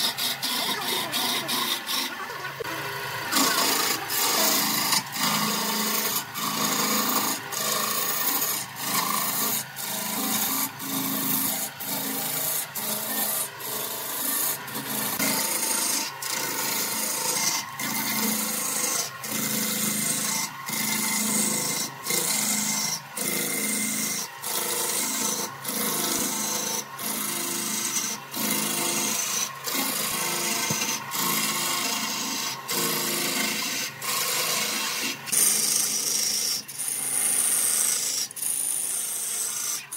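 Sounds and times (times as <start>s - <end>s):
wood lathe cutting wood: 0.0s - 39.9s.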